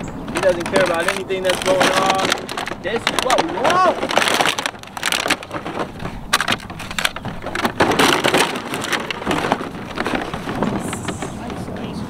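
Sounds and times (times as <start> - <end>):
plastic bottles and cans crinkling: 0.0 - 12.0.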